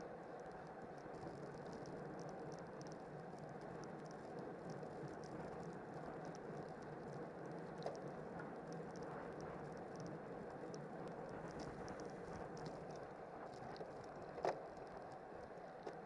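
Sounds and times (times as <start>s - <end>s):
wind and tyres on asphalt: 0.0s - 16.0s.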